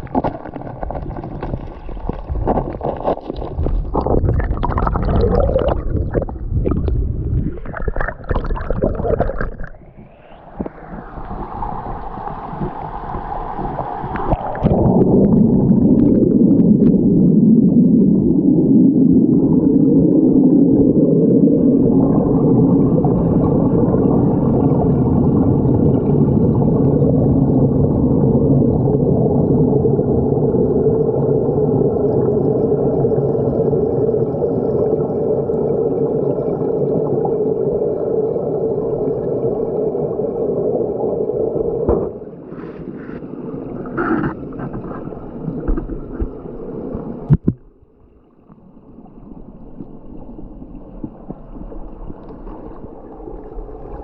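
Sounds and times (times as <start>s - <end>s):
muffled underwater water rush: 0.0s - 54.0s.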